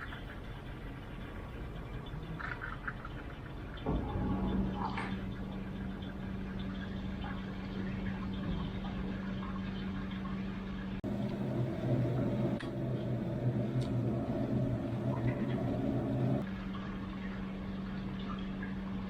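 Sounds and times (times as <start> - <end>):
water moving inside dishwasher: 0.0 - 17.4
dishwasher motor hum: 0.0 - 19.0.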